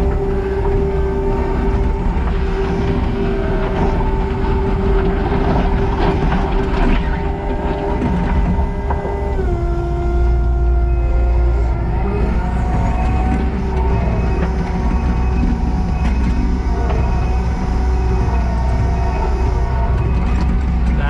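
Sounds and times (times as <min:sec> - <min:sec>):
diesel engine rumble: 0:00.0 - 0:21.0
hydraulic whine: 0:00.0 - 0:21.0.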